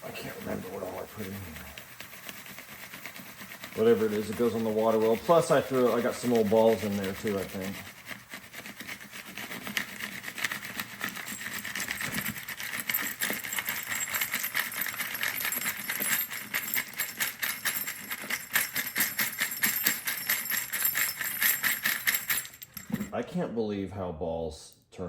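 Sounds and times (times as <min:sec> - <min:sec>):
metal parts rattling in a sieve: 0:00.0 - 0:23.2.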